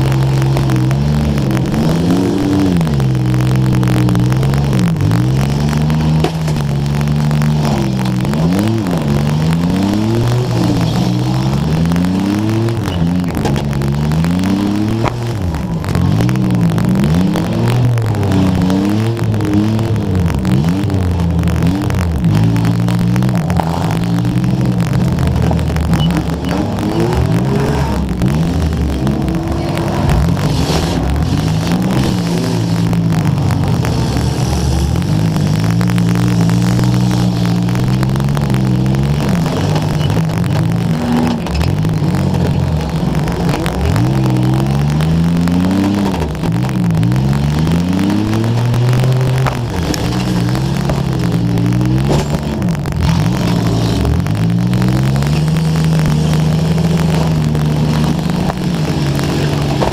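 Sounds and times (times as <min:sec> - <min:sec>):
car engine revving: 0:00.0 - 0:59.9
crackling microphone static: 0:00.0 - 0:59.9.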